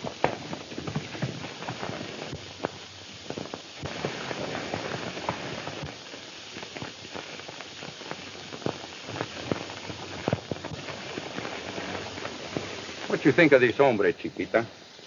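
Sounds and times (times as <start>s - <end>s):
film soundtrack hiss: 0.0s - 15.0s.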